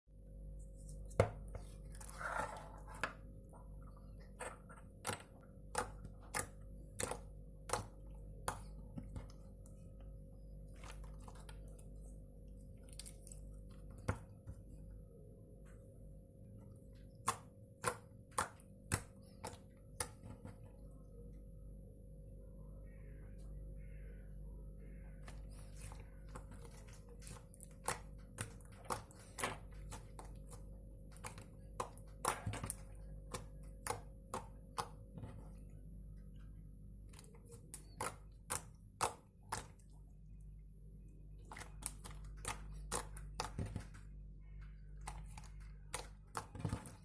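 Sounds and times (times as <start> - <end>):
steady low hum: 0.1 - 47.0.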